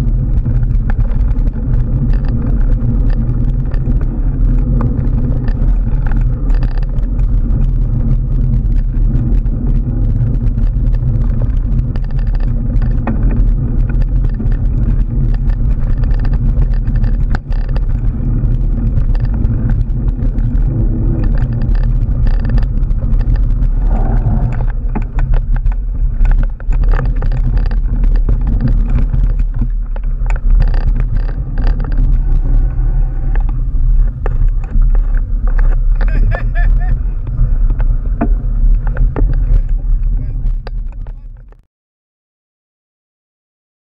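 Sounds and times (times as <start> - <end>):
bike knocks and rattles: 0.0 - 32.3, 33.4 - 41.6
wind and tyre rumble: 0.0 - 41.7.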